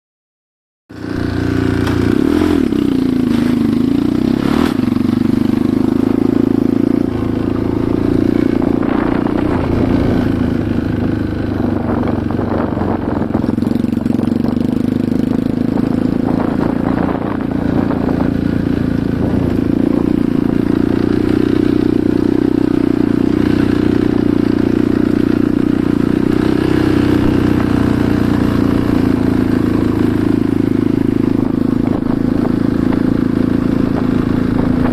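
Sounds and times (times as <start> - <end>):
motorcycle engine running: 0.9 - 34.9.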